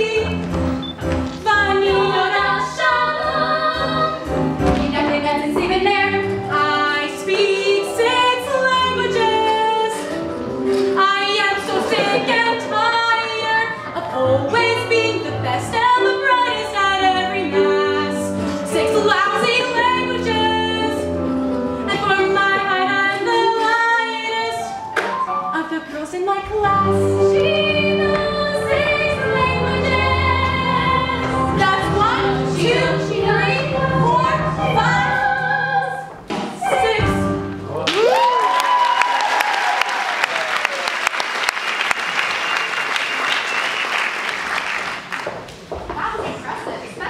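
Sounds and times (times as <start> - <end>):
live instrumental accompaniment: 0.0 - 38.4.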